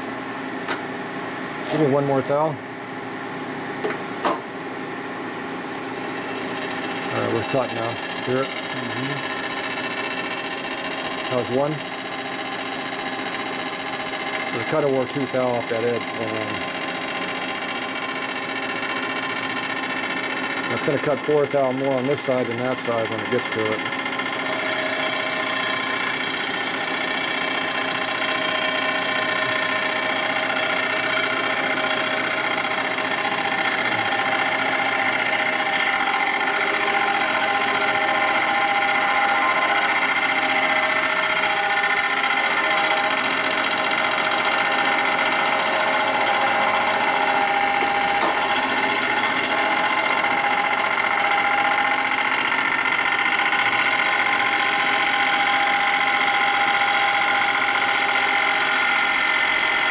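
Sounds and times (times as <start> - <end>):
machine tool humming: 5.4 - 59.9.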